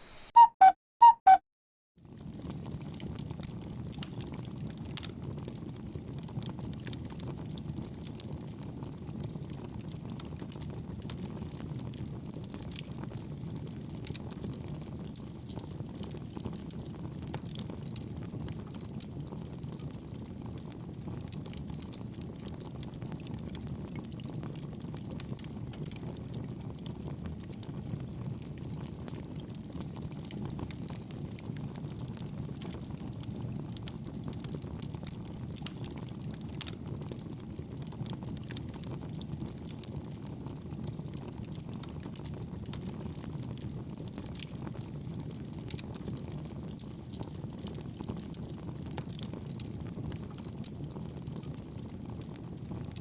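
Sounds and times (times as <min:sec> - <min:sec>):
low rumble of fire: 0:02.0 - 0:53.0
campfire crackling and popping: 0:02.2 - 0:53.0.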